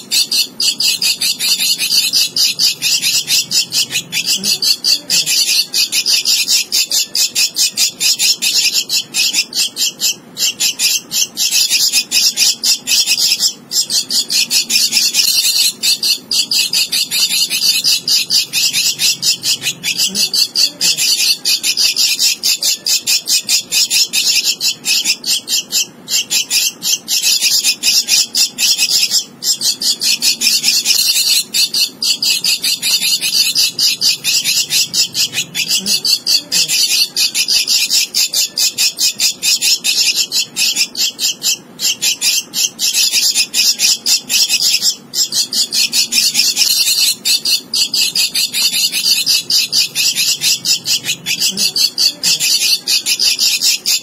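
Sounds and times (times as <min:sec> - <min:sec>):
nestling bird begging chatter: 0:00.0 - 0:54.0.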